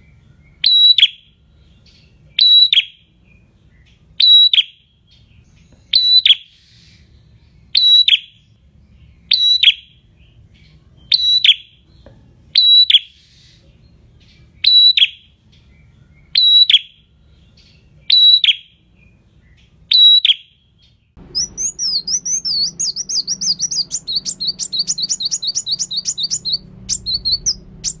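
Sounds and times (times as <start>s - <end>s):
fast high bird twittering: 0.0s - 10.4s, 11.0s - 11.8s, 12.6s - 28.0s
faint hum: 0.0s - 28.0s.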